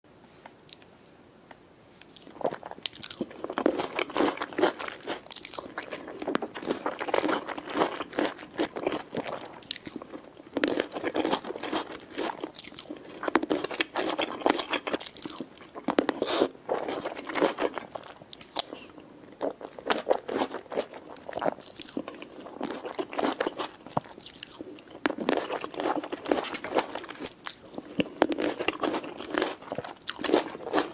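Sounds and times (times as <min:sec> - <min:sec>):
person chewing tomatoes: 0:00.7 - 0:00.9, 0:02.0 - 0:30.9.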